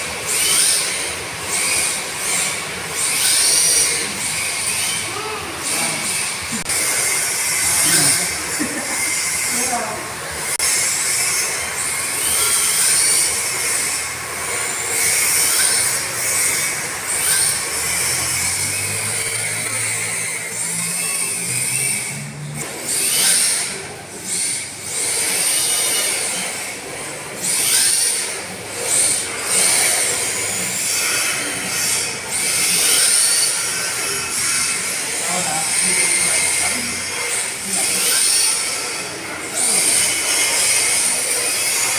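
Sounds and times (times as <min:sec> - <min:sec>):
electric motors whining: 0:00.0 - 0:41.9
tyres hissing and squealing on tile: 0:00.0 - 0:41.9.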